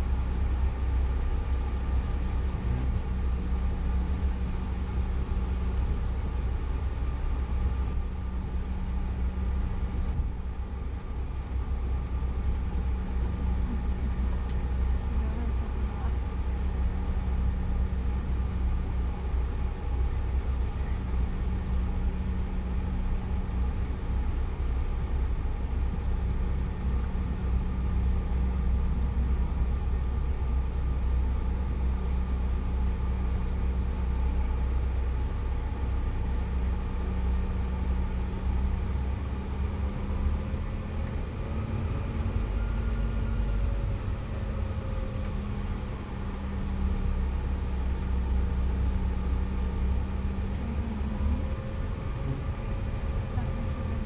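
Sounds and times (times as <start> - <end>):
jet cabin engine hum: 0.0 - 54.0.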